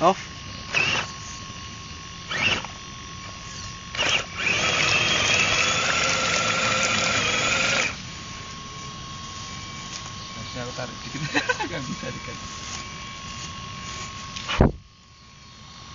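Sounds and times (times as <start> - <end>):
electric motor whining: 0.0 - 15.9.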